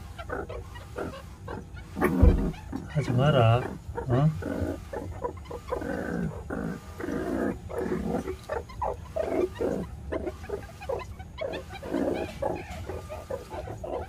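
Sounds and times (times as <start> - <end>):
meerkats calling: 0.0 - 14.0
steady low hum: 0.0 - 14.0.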